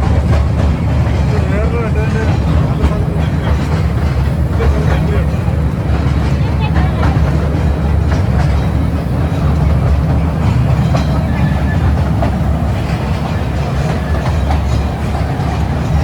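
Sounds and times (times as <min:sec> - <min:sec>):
toy train rumbling: 0:00.0 - 0:16.0.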